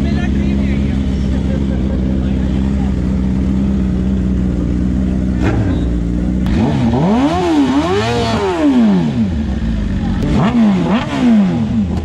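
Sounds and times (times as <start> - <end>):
motorcycle engine idling: 0.0 - 12.0
motorcycle engine revving: 0.0 - 12.0.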